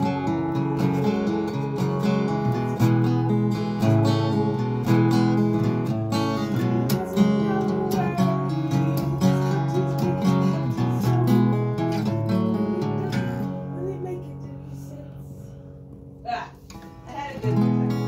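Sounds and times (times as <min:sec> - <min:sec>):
acoustic guitar strummed: 0:00.0 - 0:18.0.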